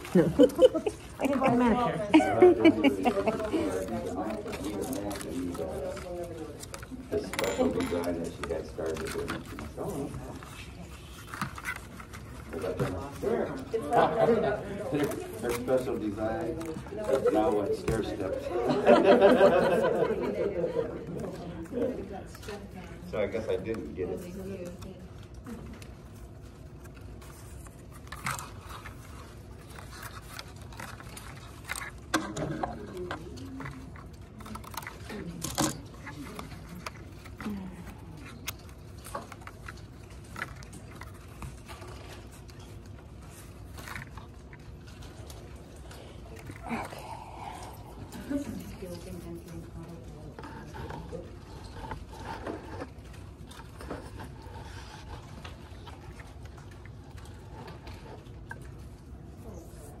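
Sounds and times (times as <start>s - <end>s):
low room hum: 0.0s - 60.0s.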